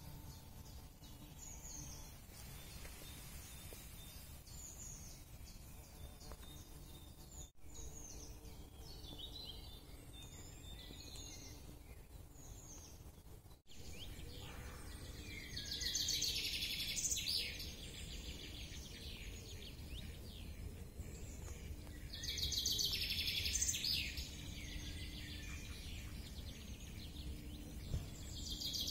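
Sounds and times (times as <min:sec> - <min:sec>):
bird trilling song: 0:00.0 - 0:28.9
birds chirping and whistling: 0:00.0 - 0:28.9.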